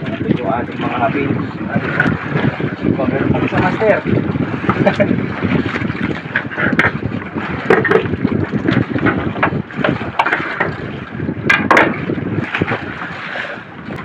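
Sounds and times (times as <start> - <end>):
water sounds: 0.0 - 14.0
wind buffeting microphone: 0.0 - 14.0.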